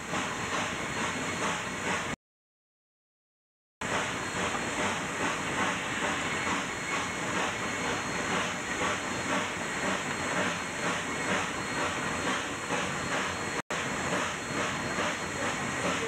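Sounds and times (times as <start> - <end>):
steam hissing: 0.0 - 2.2, 3.8 - 16.0
steam locomotive exhaust beat: 0.0 - 2.2, 3.8 - 16.0.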